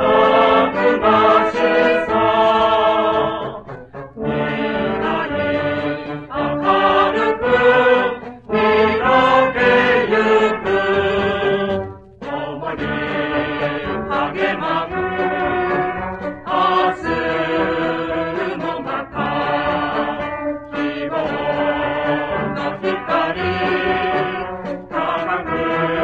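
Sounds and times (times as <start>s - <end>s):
brass band playing: 0.0s - 26.0s
mixed chorus singing: 0.0s - 26.0s.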